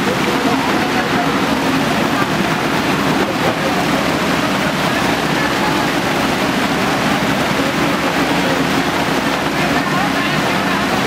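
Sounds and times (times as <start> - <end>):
diesel engine humming: 0.0 - 11.0
floodwater rushing: 0.0 - 11.0.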